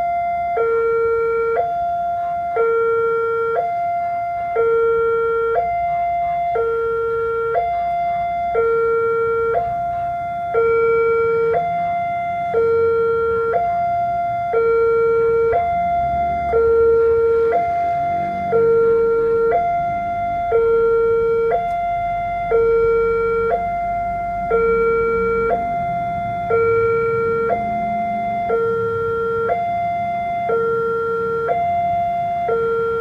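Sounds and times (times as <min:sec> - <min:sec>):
level-crossing two-tone alarm: 0:00.0 - 0:33.0.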